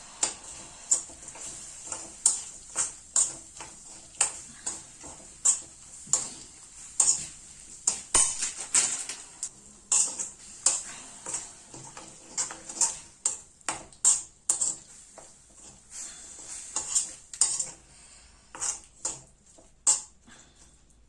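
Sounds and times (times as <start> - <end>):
spoon scraping and knocking a pan: 0.2 - 17.8, 18.5 - 20.1.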